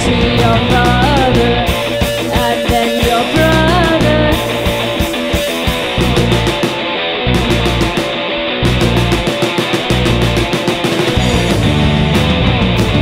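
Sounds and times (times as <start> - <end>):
drum hits: 0.0 - 13.0
rock band playing live: 0.0 - 13.0.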